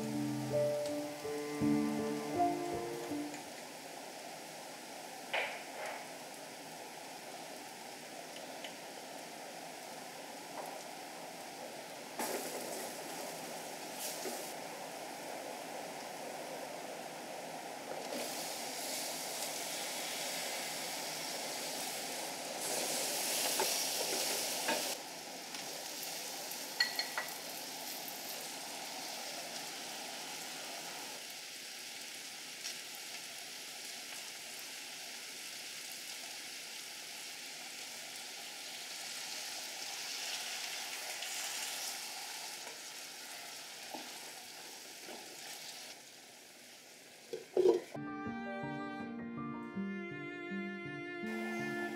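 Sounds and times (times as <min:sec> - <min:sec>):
food sizzling in a pot: 0:00.0 - 0:48.0.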